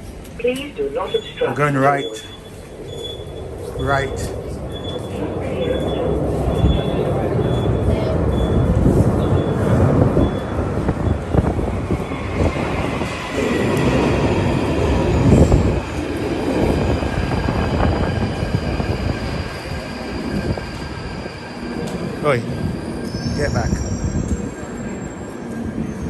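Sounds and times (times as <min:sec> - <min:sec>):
rumble of train wheels on rails: 0:00.0 - 0:01.4, 0:02.0 - 0:26.0.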